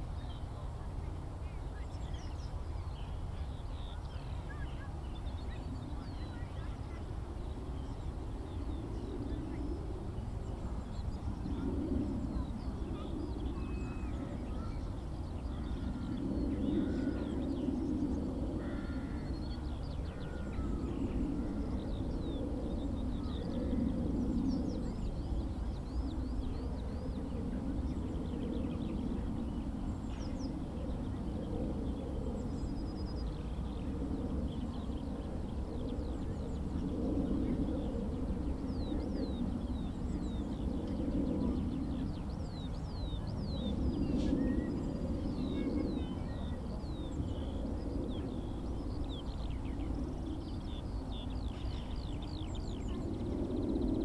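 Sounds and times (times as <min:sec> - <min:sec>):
distant propeller aircraft drone: 0:00.0 - 0:54.0.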